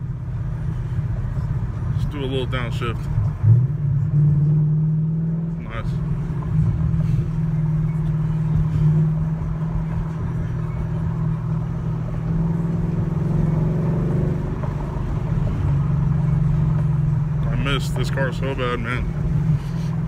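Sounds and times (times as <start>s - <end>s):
car engine droning inside cabin: 0.0s - 20.0s.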